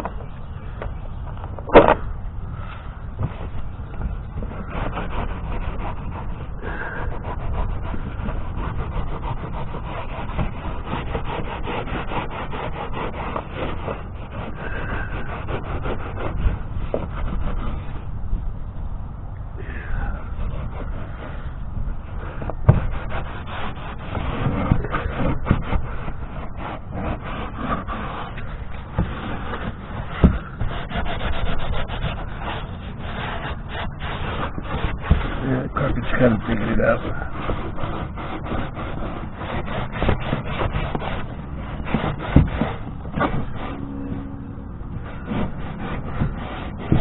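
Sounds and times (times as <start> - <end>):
carpet scrubbing plastic hull: 0.0 - 18.6, 19.6 - 47.0.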